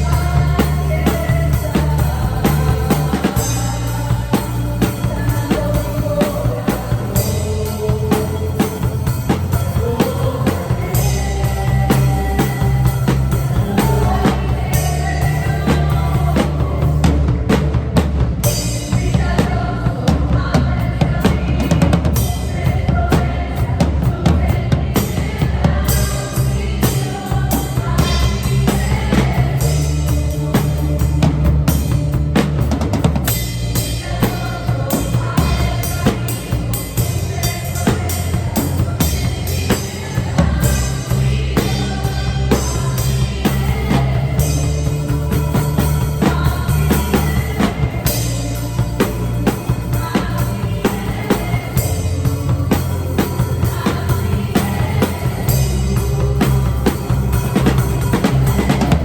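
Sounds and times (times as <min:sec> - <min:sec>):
backing track music: 0:00.0 - 0:59.0
drum kit groove: 0:00.0 - 0:59.0.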